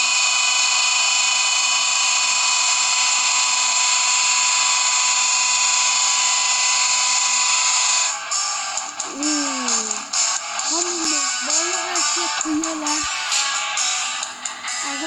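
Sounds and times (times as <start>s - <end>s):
small high-speed motor whirring: 0.0s - 13.5s.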